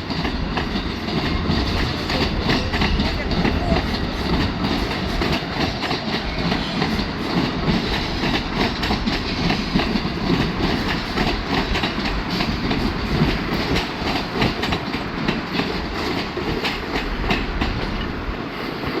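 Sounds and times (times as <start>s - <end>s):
wheels clicking over rail joints: 0.0s - 18.1s
passenger train rolling past: 0.0s - 19.0s.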